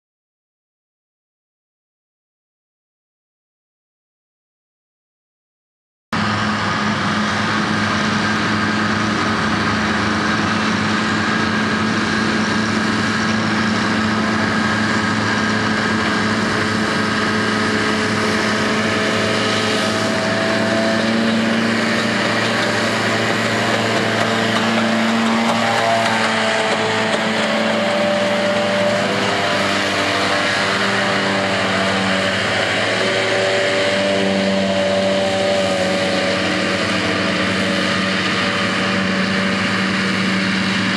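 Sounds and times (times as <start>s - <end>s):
diesel engine running: 6.2s - 40.9s.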